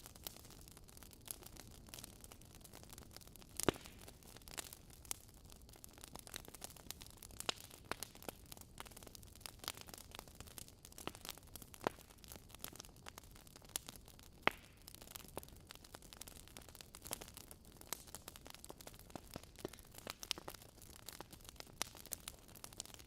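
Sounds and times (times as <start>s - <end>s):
fire crackling and popping: 0.0s - 23.0s
low fire hiss: 0.0s - 23.0s.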